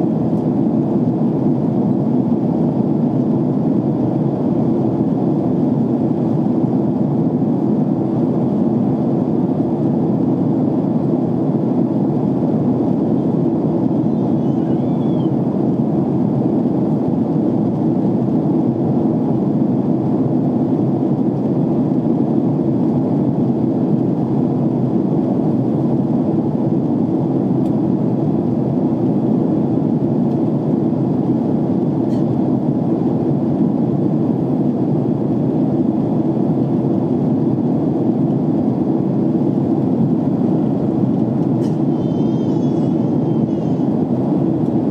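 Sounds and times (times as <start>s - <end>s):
airliner cabin jet engine rush: 0.0s - 44.9s.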